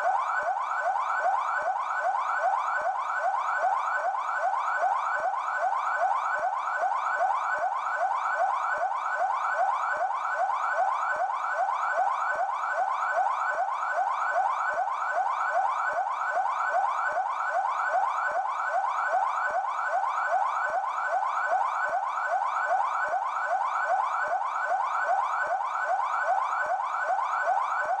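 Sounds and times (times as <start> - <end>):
police siren yelping: 0.0 - 28.0.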